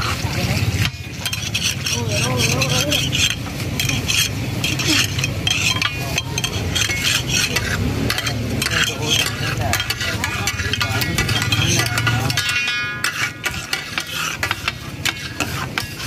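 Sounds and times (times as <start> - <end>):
food sizzling in oil: 0.0 - 16.0
metal spatulas scraping griddle: 0.0 - 16.0.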